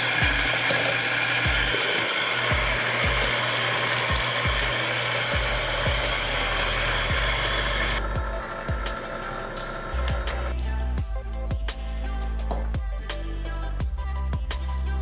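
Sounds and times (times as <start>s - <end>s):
background music with kick drum: 0.0s - 15.0s.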